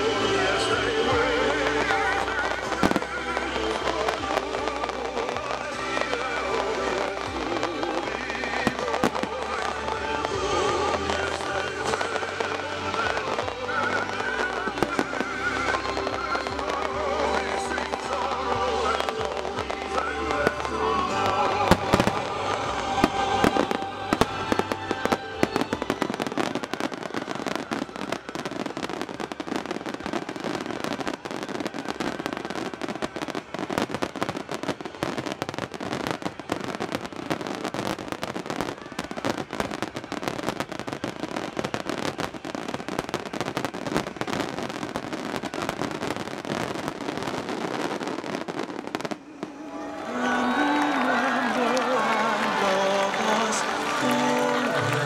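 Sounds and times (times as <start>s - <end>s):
fireworks popping and crackling: 0.0s - 55.0s.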